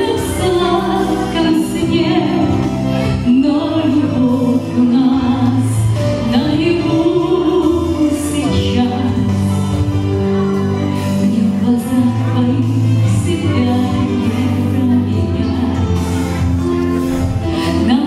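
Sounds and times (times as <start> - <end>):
woman singing slow song: 0.0 - 9.8, 11.2 - 16.2, 17.4 - 18.0
instrumental accompaniment: 0.0 - 18.0.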